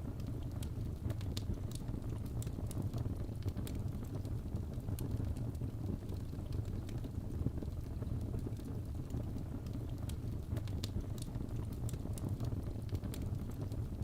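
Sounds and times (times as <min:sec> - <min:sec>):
fireplace crackling and popping: 0:00.0 - 0:14.0.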